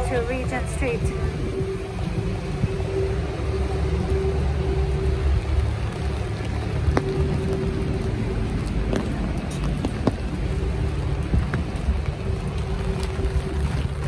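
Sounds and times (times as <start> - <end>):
traffic on a wet road: 0.0 - 14.0.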